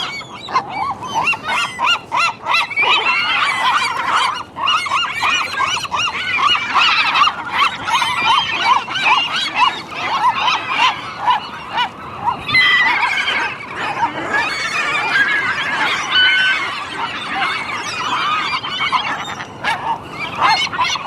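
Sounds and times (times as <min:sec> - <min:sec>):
seagulls squawking: 0:00.0 - 0:21.0.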